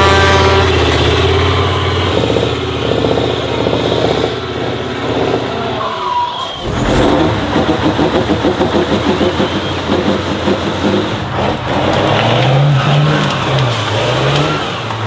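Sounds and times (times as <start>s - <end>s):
diesel truck engines under load: 0.0s - 15.0s.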